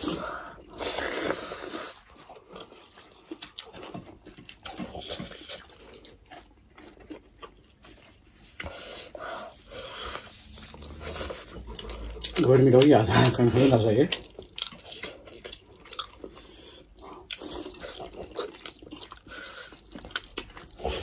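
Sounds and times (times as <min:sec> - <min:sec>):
people chewing and mouth smacking: 0:00.0 - 0:21.0.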